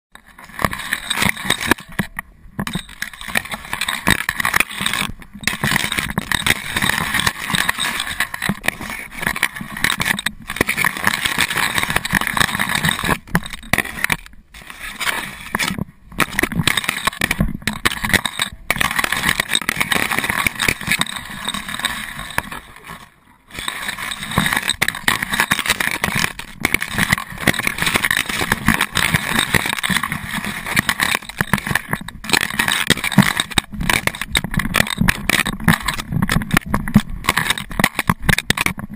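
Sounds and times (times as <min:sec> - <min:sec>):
grass rustling against camera: 0:00.1 - 0:38.9.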